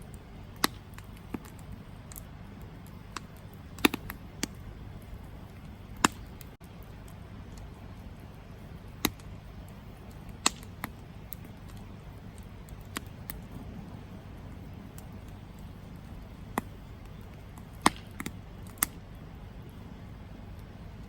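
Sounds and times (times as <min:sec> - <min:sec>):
campfire crackling and popping: 0:00.0 - 0:21.0
steady low rumble: 0:00.0 - 0:21.0.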